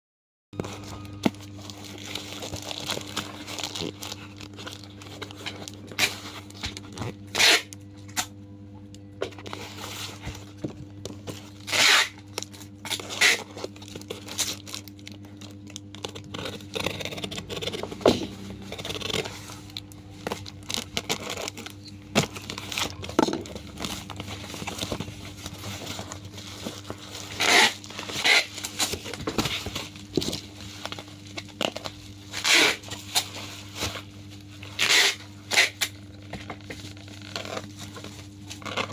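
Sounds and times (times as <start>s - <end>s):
packaging tearing and crinkling: 0.6s - 8.4s, 9.4s - 38.9s
steady low hum: 0.6s - 38.6s.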